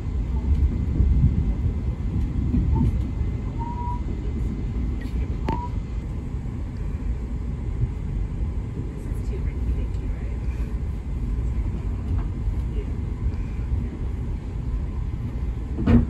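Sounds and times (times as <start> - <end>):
train rumble from inside: 0.0 - 16.0.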